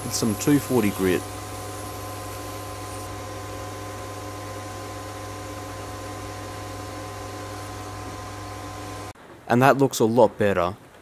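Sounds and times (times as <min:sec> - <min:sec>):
lathe motor hum and whine: 0:00.0 - 0:09.2.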